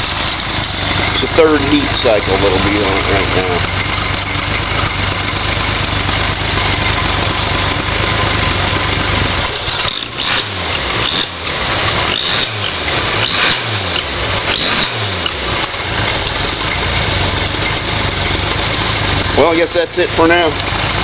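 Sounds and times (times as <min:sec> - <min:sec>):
engine running with surges: 0:00.0 - 0:21.0.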